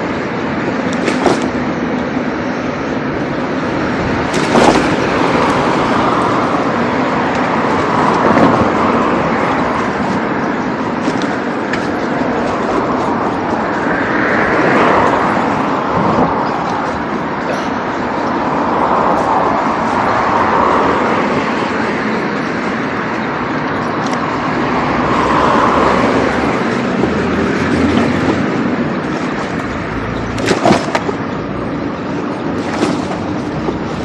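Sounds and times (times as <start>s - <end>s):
street traffic passing: 0.0s - 34.0s.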